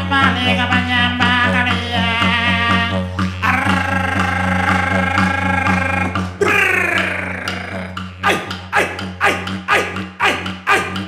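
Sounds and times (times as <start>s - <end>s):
didgeridoo drone: 0.0s - 11.0s.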